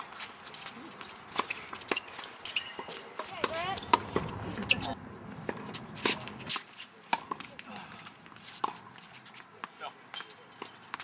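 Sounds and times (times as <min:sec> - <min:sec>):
tennis balls bouncing on court: 0:00.0 - 0:11.0
tennis balls struck by rackets: 0:00.0 - 0:11.0.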